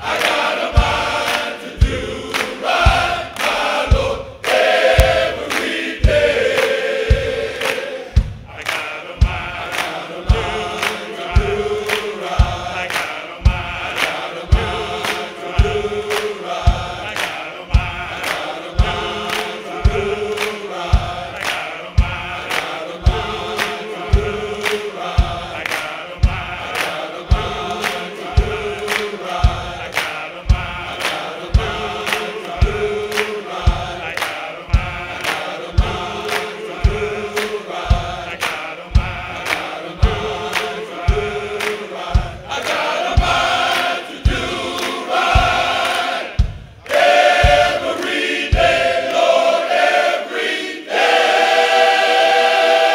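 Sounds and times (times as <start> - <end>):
hand clapping: 0.0 - 51.1
driving beat: 0.0 - 52.9
men's choir singing: 0.0 - 52.9.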